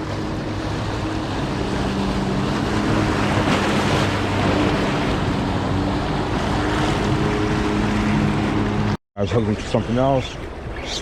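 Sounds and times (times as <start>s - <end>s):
jet ski engine running: 0.0s - 9.0s
surf: 0.0s - 11.0s
wind: 0.0s - 11.0s.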